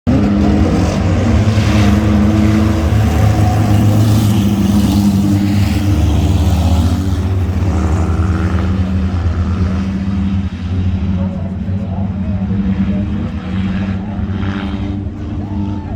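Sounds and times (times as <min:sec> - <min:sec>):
mini truck engines racing: 0:00.0 - 0:15.9.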